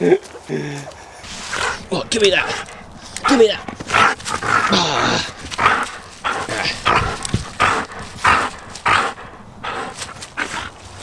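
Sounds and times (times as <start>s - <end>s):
dog falling cry: 1.2s - 11.0s.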